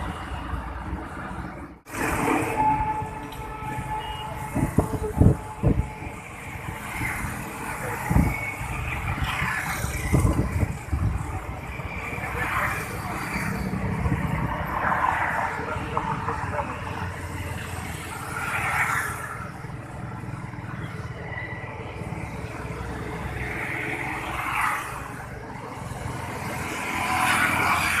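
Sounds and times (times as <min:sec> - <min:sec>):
low traffic rumble: 0:00.0 - 0:28.0
vehicles passing: 0:00.0 - 0:28.0.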